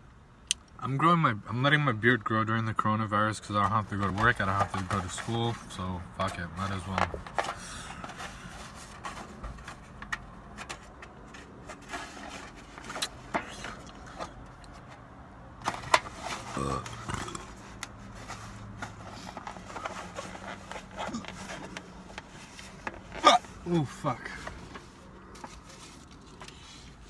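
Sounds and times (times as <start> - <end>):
low hum inside a car: 0.0 - 27.0
food packaging crinkling and rustling: 3.6 - 23.2, 24.0 - 27.0.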